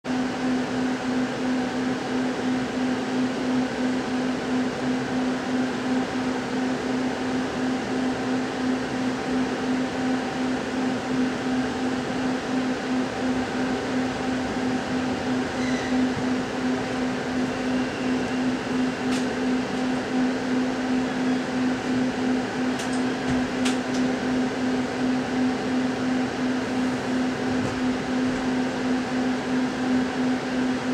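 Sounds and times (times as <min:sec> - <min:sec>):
train carriage equipment hum: 0:00.3 - 0:30.9.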